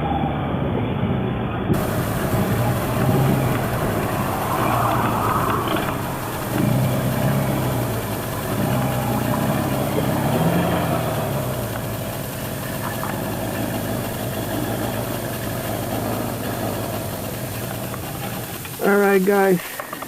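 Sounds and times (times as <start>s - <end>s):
motorcycle engine idling: 1.8s - 20.0s.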